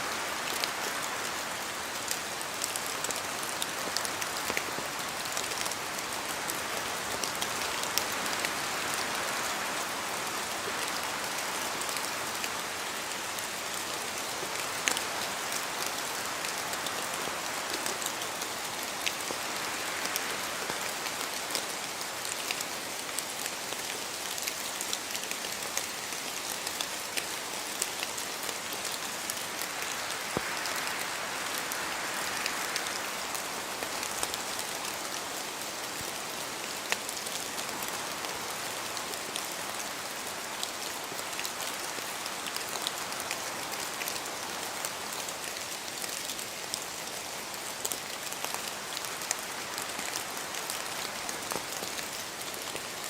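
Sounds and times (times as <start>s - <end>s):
rain pattering on leaves: 0.0s - 53.0s.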